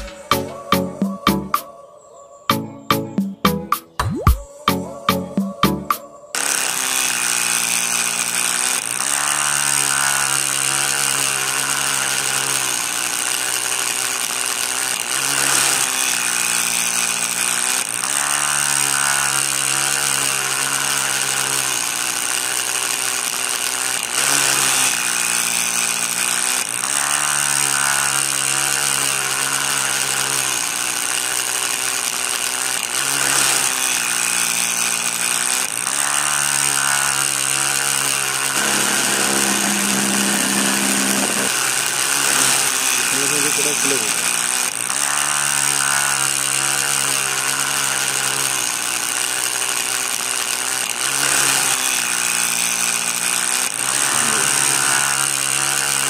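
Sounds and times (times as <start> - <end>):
small saw motor whining: 0.0 - 3.4, 4.5 - 56.0.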